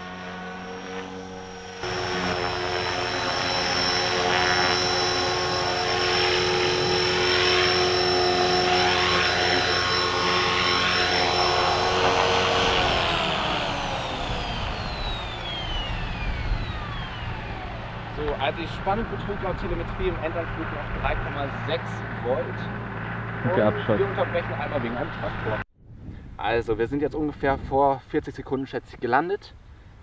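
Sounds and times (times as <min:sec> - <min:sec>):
model helicopter motor whine: 0:00.0 - 0:25.6.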